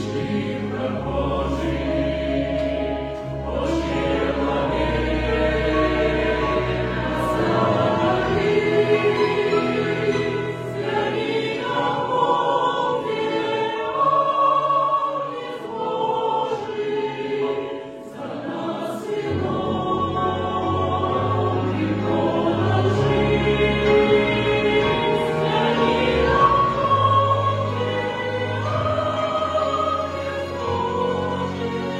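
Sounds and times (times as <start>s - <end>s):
choir singing sustained notes: 0.0s - 31.9s.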